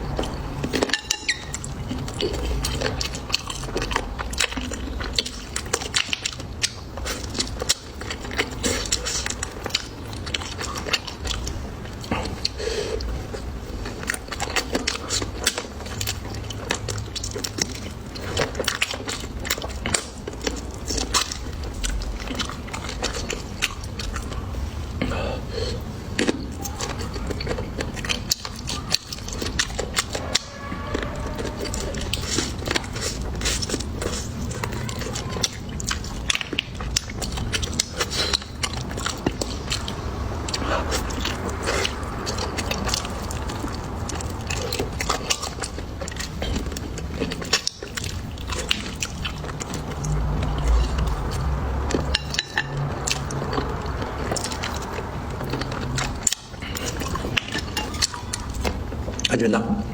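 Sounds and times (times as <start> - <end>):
chewing and biting: 0.0 - 59.4.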